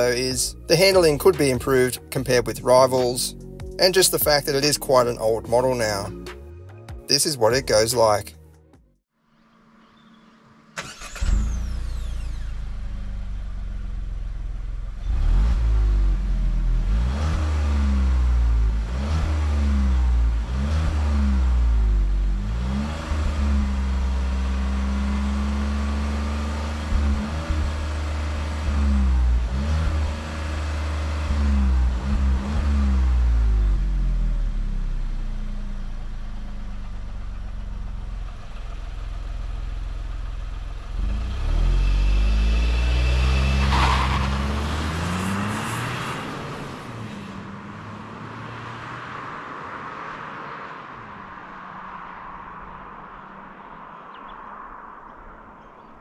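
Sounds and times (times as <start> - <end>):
car engine revving: 9.5 - 55.6.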